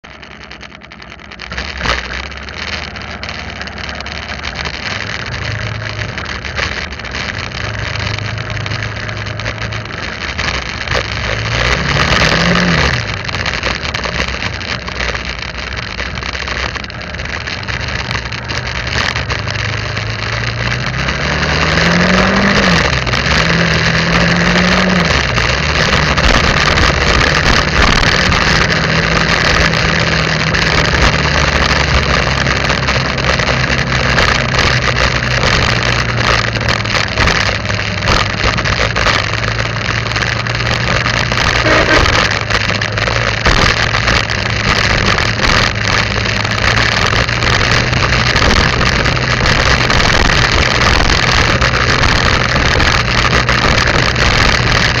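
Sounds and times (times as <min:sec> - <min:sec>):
wind and road noise: 0:00.0 - 0:55.0
motorbike engine revving: 0:00.1 - 0:55.0.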